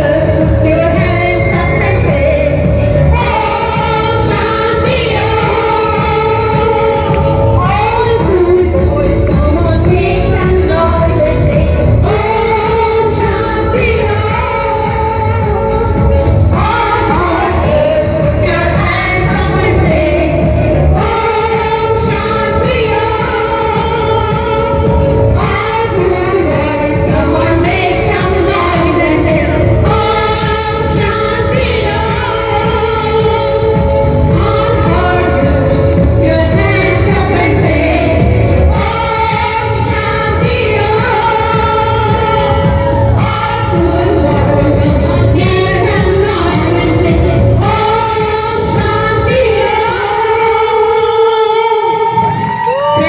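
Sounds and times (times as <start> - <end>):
backing music with steady beat: 0.0 - 53.0
women singing: 0.0 - 53.0.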